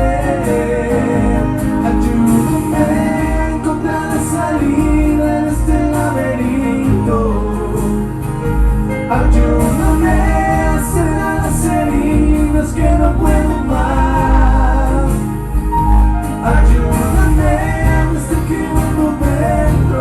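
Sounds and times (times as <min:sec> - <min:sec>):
band playing pop ballad: 0:00.0 - 0:20.0
pulsing bass: 0:00.0 - 0:20.0
wordless vocals: 0:00.0 - 0:20.0.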